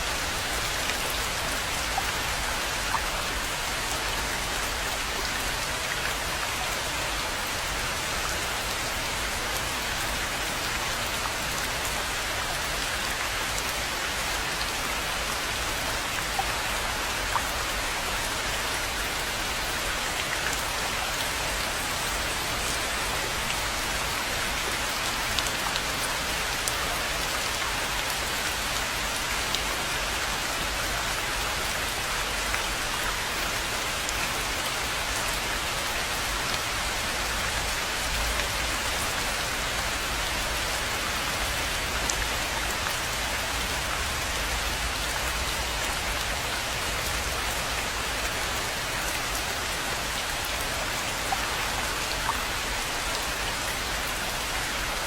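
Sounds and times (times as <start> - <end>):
rain falling on pond: 0.0 - 55.0.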